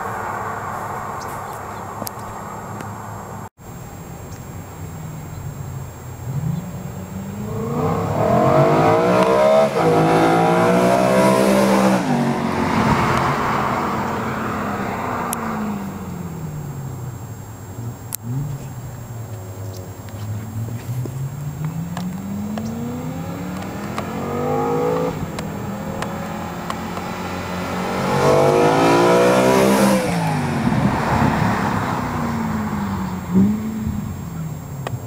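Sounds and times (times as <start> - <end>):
car engine accelerating hard: 5.1 - 35.0.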